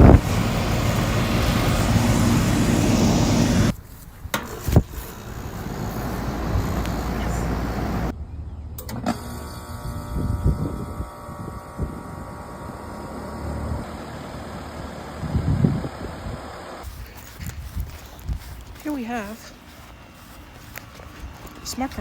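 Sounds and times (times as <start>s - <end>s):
air conditioner fan rush: 0.0s - 8.2s, 9.8s - 22.0s
compressor hum with pitched tones: 0.0s - 22.0s.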